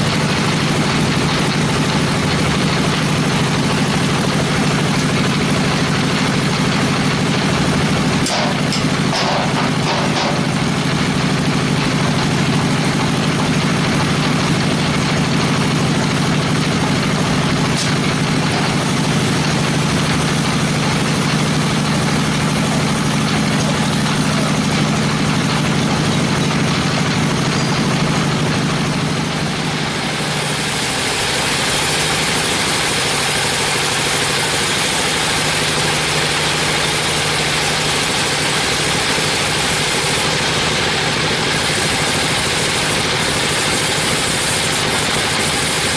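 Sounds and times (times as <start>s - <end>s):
band saw cutting log: 0.0s - 11.5s, 16.6s - 45.9s
band sawmill humming: 0.0s - 45.9s.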